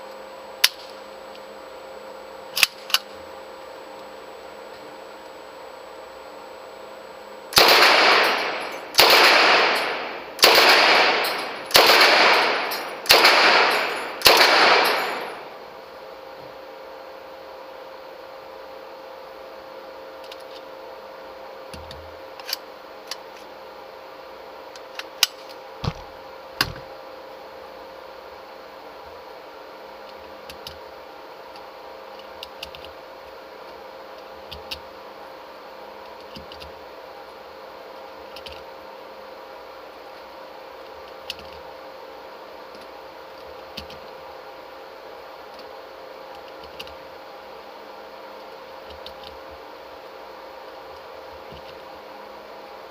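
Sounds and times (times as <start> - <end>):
steady background hum: 0.0 - 52.9.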